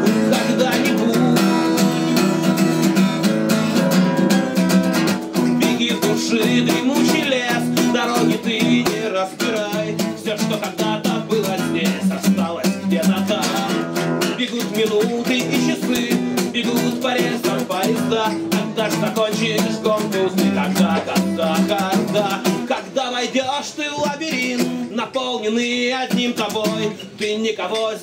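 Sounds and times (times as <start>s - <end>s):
acoustic guitar strumming: 0.0s - 28.0s
man singing: 0.0s - 28.0s.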